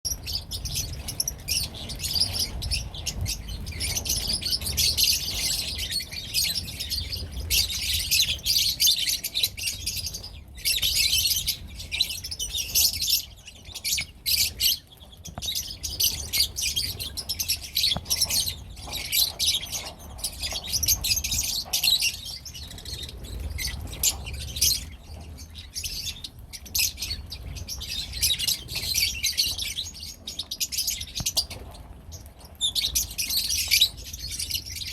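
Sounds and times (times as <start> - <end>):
birds chirping and chattering: 0.1 - 34.9.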